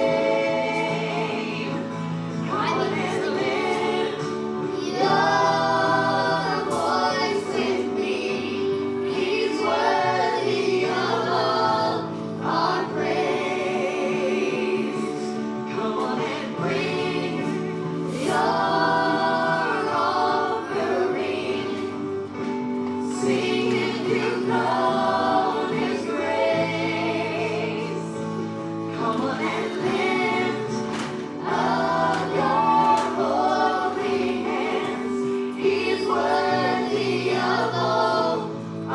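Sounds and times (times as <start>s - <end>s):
choir singing gospel: 0.0s - 38.9s.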